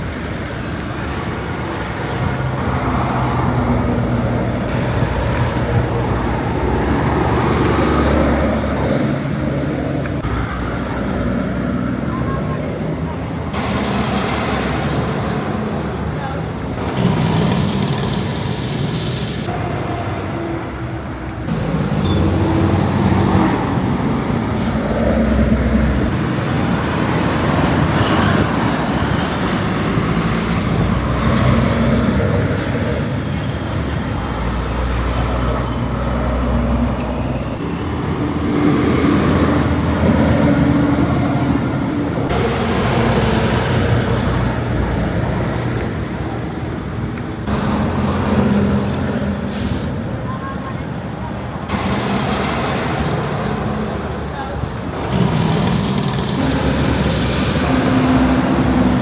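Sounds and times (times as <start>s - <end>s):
heavy trucks driving past: 0.0s - 59.0s
tyre and traffic noise: 0.0s - 59.0s.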